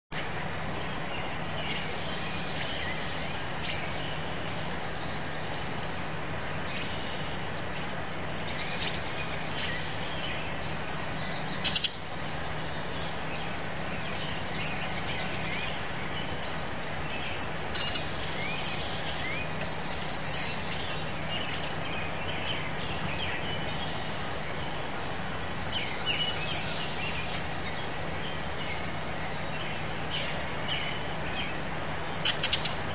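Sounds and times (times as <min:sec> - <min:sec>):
songbirds chirping and singing: 0:00.2 - 0:32.9.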